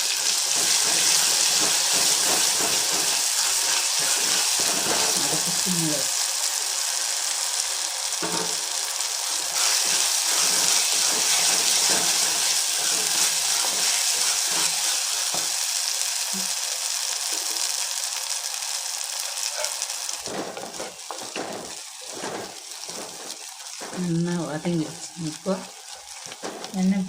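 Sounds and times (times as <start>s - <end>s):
paste sizzling in hot oil: 0.0s - 27.0s.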